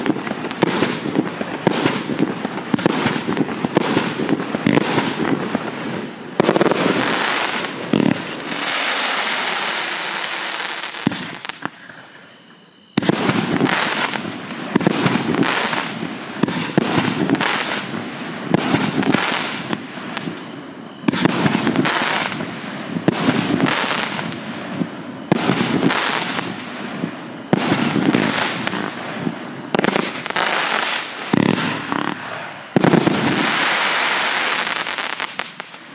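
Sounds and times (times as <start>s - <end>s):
fireworks aerial bursts: 0.0s - 35.9s
steady dense hiss: 0.0s - 35.9s.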